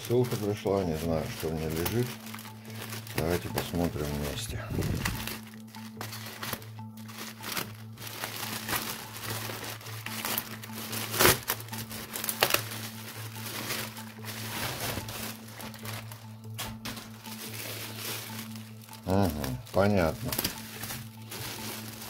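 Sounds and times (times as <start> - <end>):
background music: 0.0 - 22.0
loud plastic crackle: 0.0 - 22.0
plastic bag and bubble wrap crinkling: 0.0 - 22.0.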